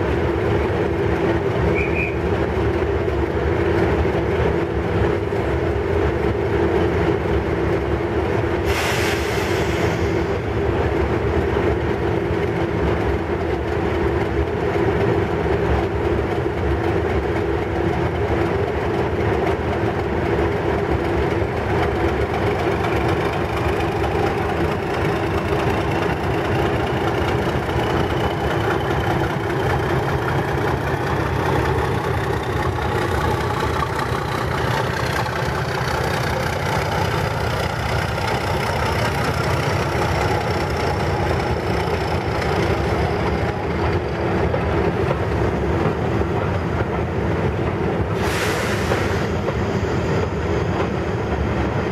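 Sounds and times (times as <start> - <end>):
diesel locomotive engine drone: 0.0 - 51.9.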